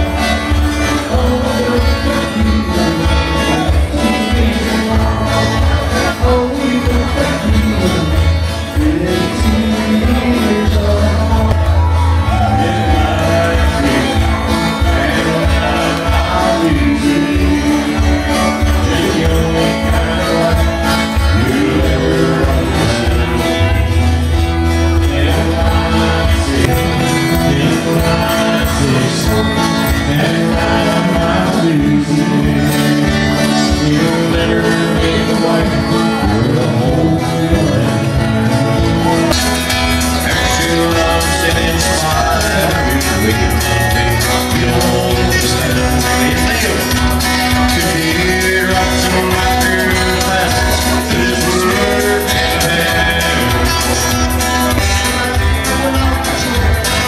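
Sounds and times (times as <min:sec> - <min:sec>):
guitar: 0:00.0 - 0:57.0
live band playing country music: 0:00.0 - 0:57.0
person singing: 0:00.0 - 0:57.0
steady drum beat: 0:00.0 - 0:57.0.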